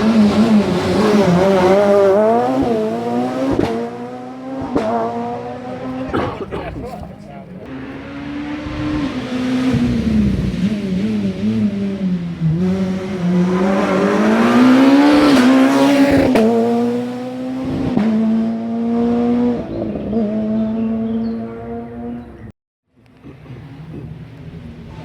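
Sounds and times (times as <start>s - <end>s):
rally car engine at high revs: 0.0s - 22.5s.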